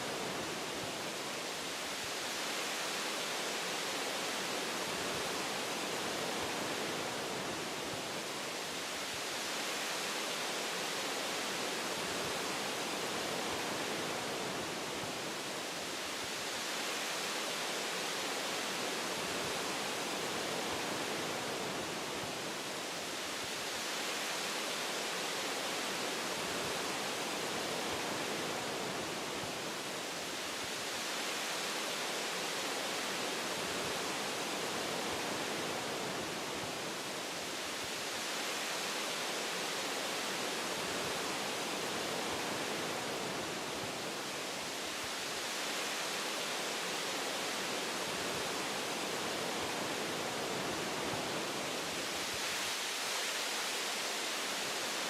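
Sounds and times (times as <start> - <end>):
wind rushing through tree branches: 0.0 - 55.0.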